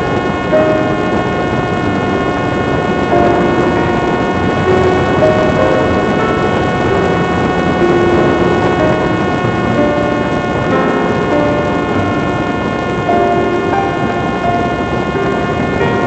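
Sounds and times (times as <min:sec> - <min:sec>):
rush of wind: 0:00.0 - 0:16.0.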